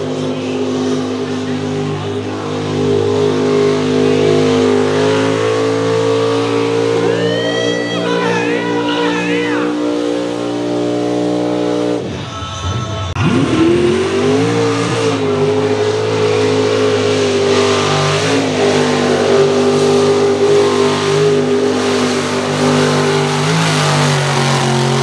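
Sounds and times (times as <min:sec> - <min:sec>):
truck engine revving hard: 0:00.0 - 0:25.0.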